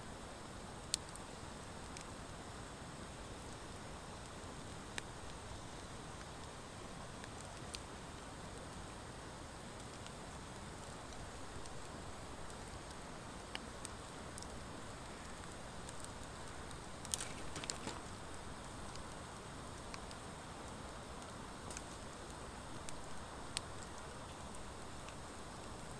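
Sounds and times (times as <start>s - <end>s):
wood fire hissing: 0.0s - 25.9s
fire crackles and pops: 0.1s - 25.9s.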